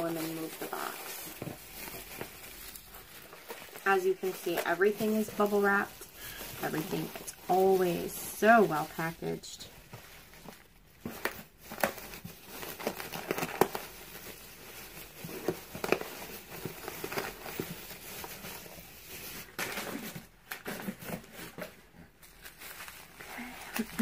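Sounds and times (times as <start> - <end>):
bubble wrap crinkling: 0.0 - 24.0.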